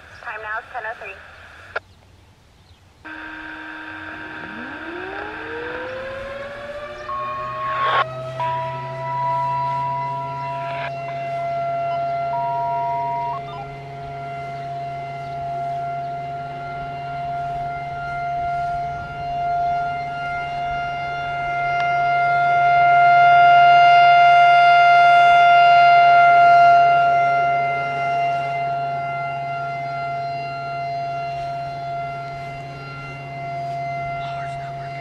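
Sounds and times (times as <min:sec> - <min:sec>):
siren full-alert tone: 0:03.1 - 0:35.0.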